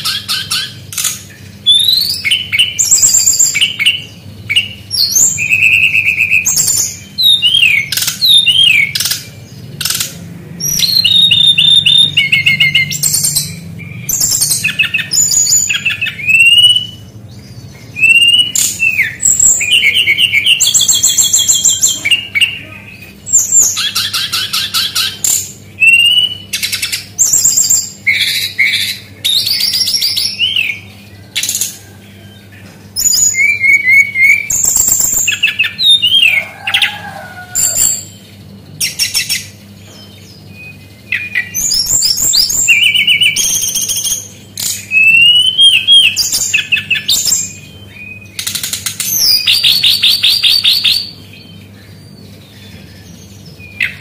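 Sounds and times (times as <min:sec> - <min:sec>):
bird singing trills and whistles: 0:00.0 - 0:54.0.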